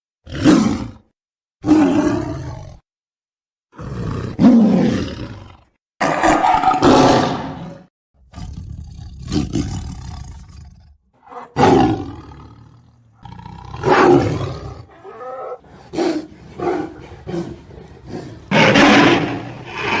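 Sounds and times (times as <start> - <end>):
tiger roaring and growling: 0.3 - 1.0, 1.6 - 2.8, 3.7 - 20.0.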